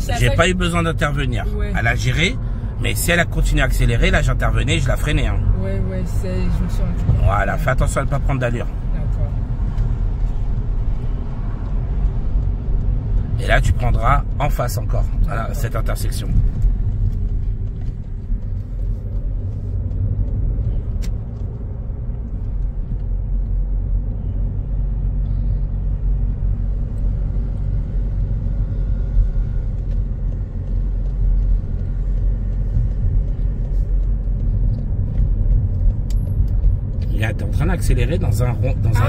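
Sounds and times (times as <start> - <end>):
car interior engine and tyre rumble: 0.0 - 39.0.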